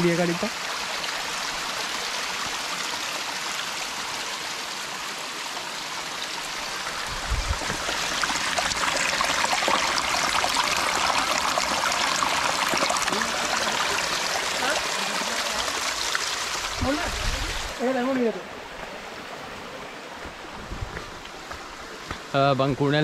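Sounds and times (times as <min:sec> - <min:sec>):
waterfall splashing down rocks: 0:00.0 - 0:18.9.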